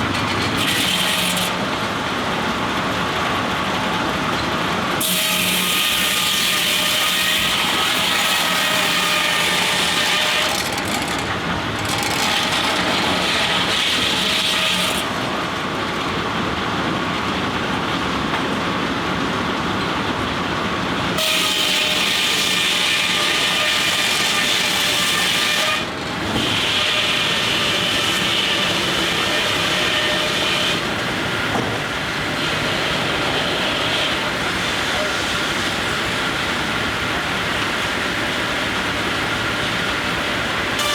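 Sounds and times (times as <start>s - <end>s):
steam engine and mill machinery: 0.0s - 40.9s.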